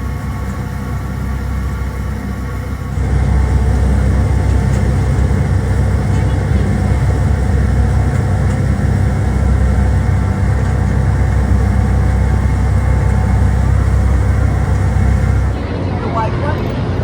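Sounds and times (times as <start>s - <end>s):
constant rushing noise: 0.0s - 17.0s
ferry engine rumble: 0.0s - 17.0s.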